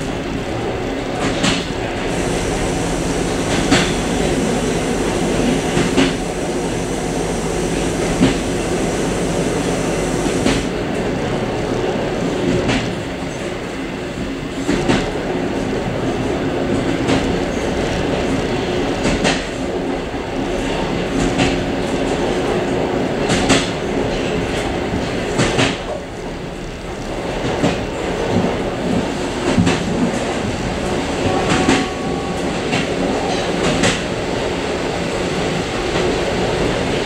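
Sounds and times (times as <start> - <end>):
train rumble and hum: 0.0 - 37.0
train wheels clacking on rail joints: 1.1 - 11.1, 14.5 - 15.3, 16.7 - 37.0.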